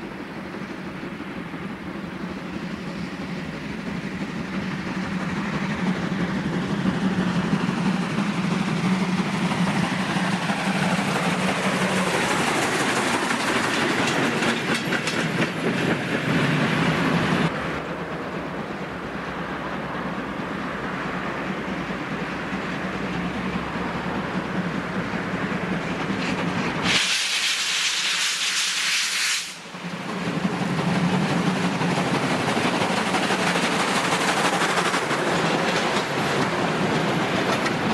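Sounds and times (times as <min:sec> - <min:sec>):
distant train: 0:00.0 - 0:37.9
steam locomotive passing: 0:00.0 - 0:37.9
train wheels clattering on rails: 0:00.0 - 0:37.9.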